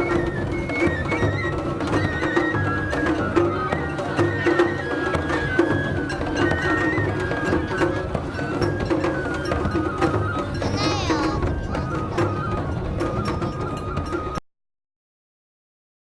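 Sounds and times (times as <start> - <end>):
high flute melody: 0.0 - 14.4
sharp percussive strikes: 0.0 - 14.4
steady drumming: 0.0 - 14.4.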